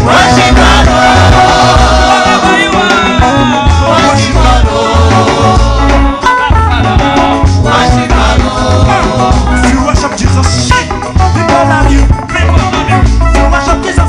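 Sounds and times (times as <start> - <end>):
gospel dance music with singing: 0.0 - 14.0.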